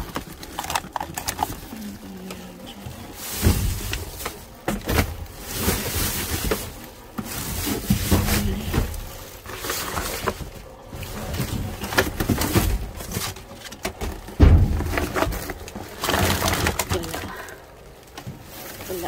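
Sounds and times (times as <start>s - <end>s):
rummaging through boxes and bags: 0.0s - 19.0s.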